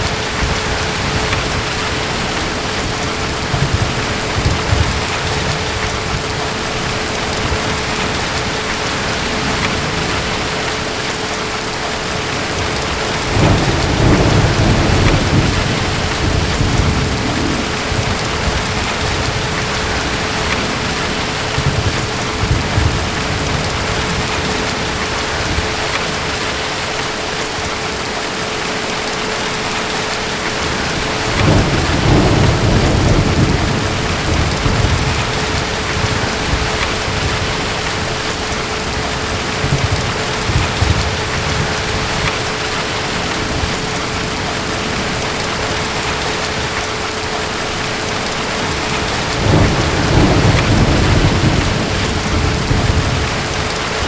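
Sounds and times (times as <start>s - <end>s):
distant thunder rumbling: 0.0s - 27.7s, 30.0s - 54.0s
steady rain: 0.0s - 54.0s.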